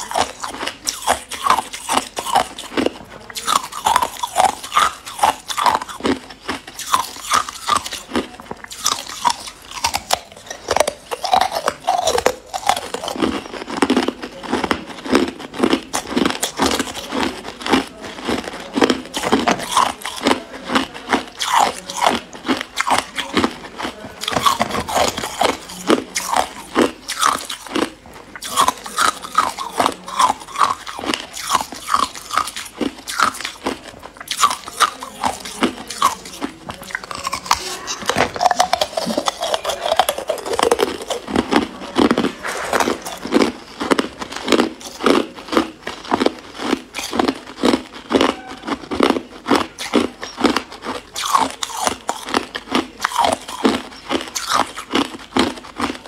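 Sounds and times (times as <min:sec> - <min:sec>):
ice cubes crunching: 0:00.0 - 0:56.0.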